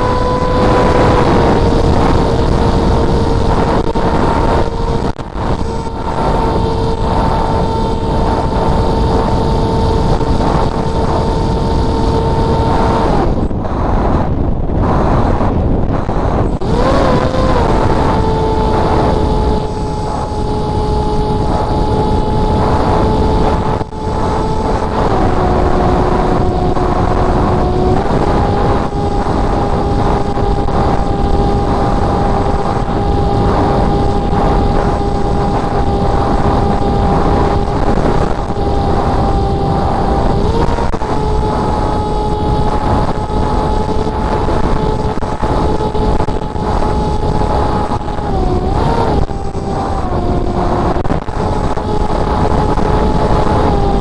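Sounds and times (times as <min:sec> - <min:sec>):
motor and propeller whine: 0:00.0 - 0:54.0
wind rush on microphone: 0:00.0 - 0:54.0.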